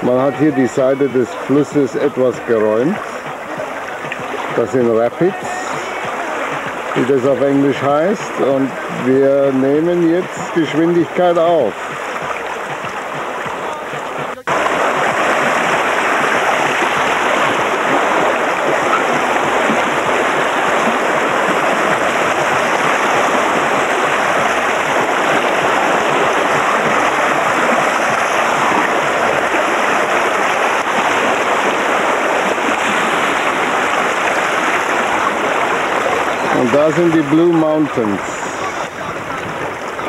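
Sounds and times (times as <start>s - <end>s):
water rushing over rapids: 0.0s - 40.0s.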